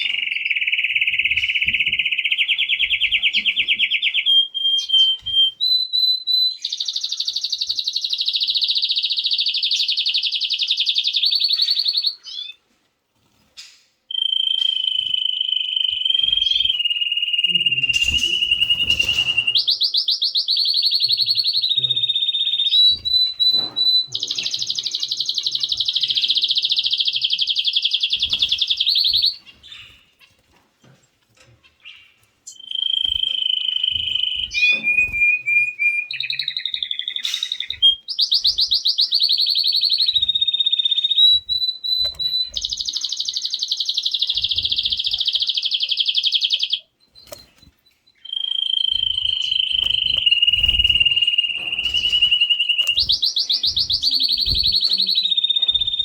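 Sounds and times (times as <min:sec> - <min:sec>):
canary singing trills: 0:00.0 - 0:12.6, 0:13.6 - 0:30.4, 0:31.6 - 0:56.0.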